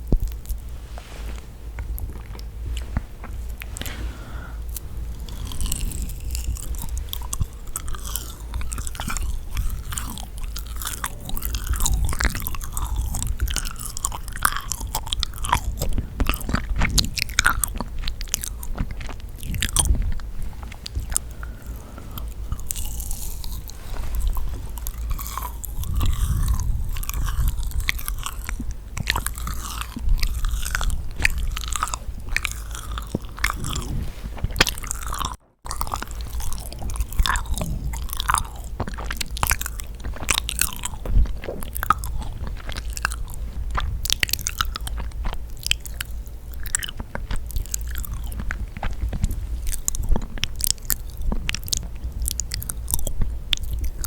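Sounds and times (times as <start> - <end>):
chewing sticky cookie: 0.0 - 54.0.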